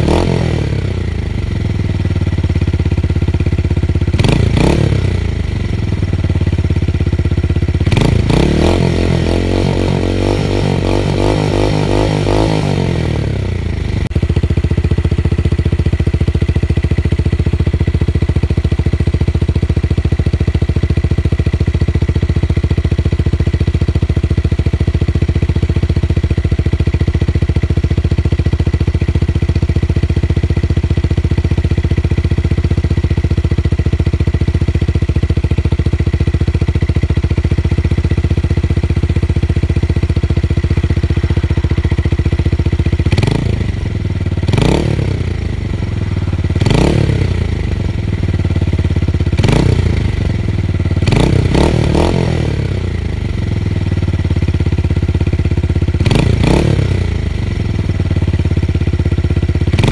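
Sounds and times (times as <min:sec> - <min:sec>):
motorcycle engine blipping and idling: 0:00.0 - 0:59.9.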